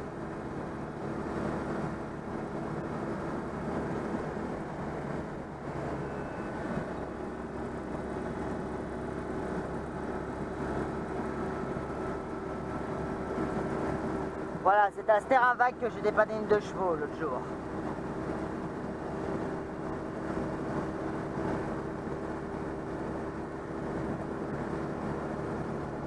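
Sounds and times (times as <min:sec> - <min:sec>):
car engine running: 0:00.0 - 0:26.0
road noise: 0:00.0 - 0:26.0.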